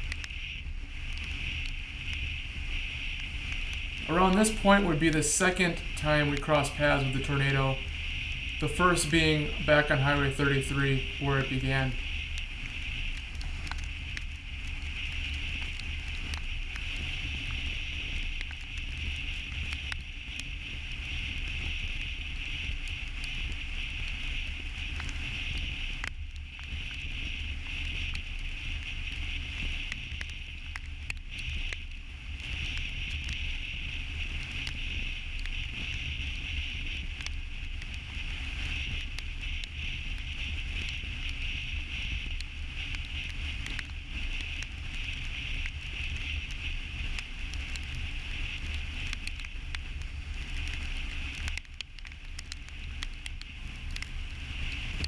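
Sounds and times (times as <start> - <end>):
faint ticks: 0.0 - 4.3, 11.9 - 55.0.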